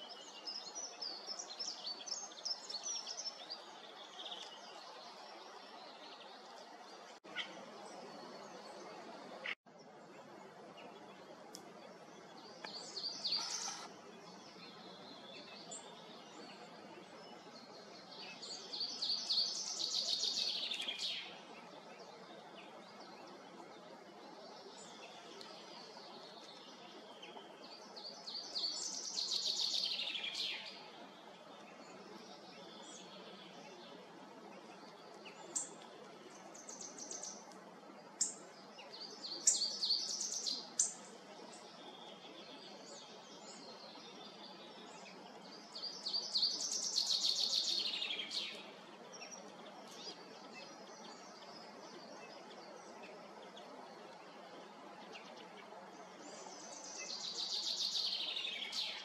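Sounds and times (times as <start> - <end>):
background hiss: 0.0 - 59.0
songbirds singing: 0.0 - 59.0.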